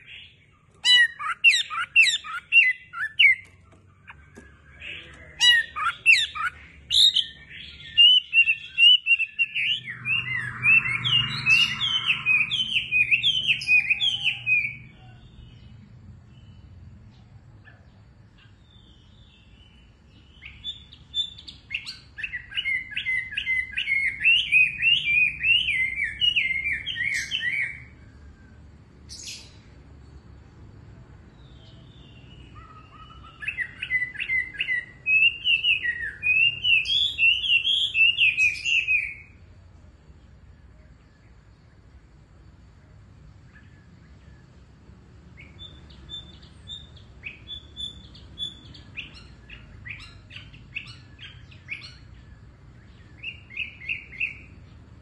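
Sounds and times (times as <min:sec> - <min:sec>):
bird singing whistled notes: 0:00.0 - 0:16.8, 0:17.6 - 0:30.3, 0:31.3 - 0:39.5, 0:43.4 - 0:55.0.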